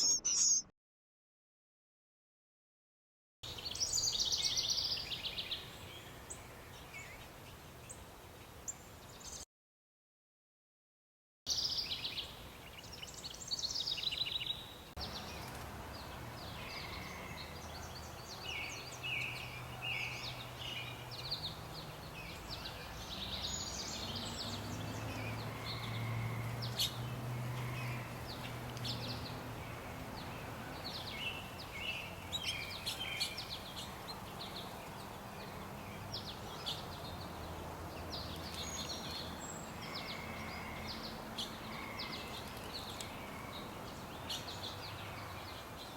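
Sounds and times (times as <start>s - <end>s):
songbirds chirping: 3.4s - 9.5s, 11.5s - 45.9s.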